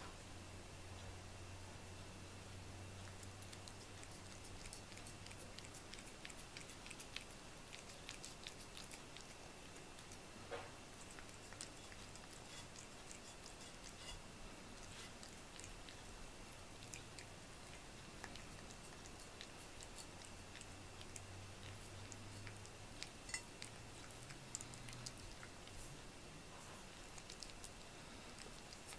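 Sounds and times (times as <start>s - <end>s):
cat licking and chewing: 2.4s - 28.9s.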